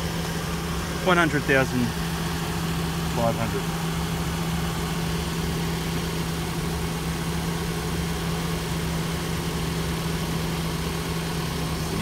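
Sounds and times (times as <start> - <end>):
engine idling close up: 0.0 - 12.0.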